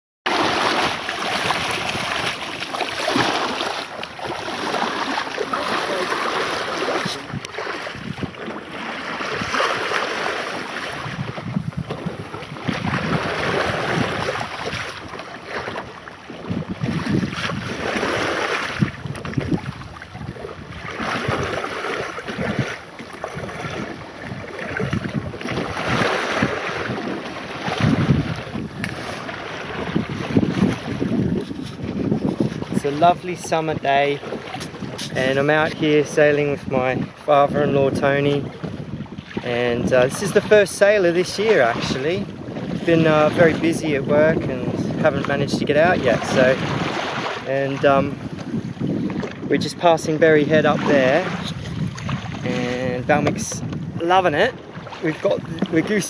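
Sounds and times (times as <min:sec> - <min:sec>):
water rushing along boat hull: 0:00.3 - 0:56.0
wind buffeting microphone: 0:00.3 - 0:56.0.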